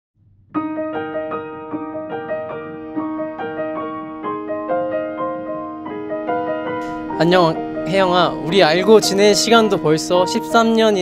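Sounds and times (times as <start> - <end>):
piano music: 0.2 - 11.0.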